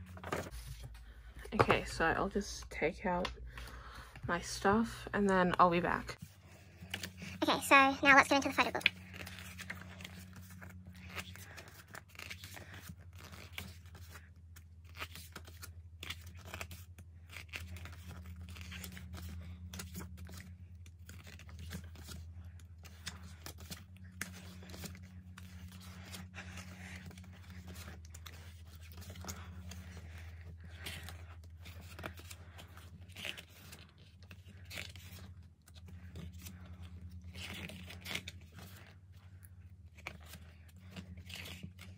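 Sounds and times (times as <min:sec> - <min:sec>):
photo book pages turning: 0:00.0 - 0:41.9
steady low hum: 0:00.0 - 0:41.9.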